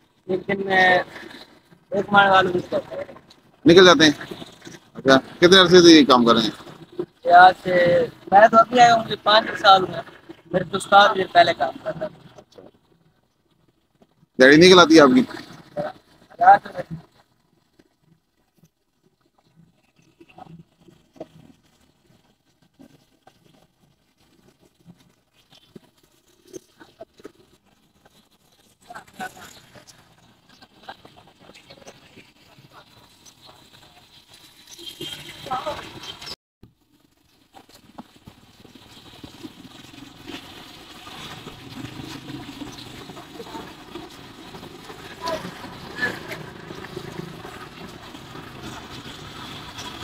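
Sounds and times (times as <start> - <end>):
hot oil crackling and sizzling: 0.0 - 50.0.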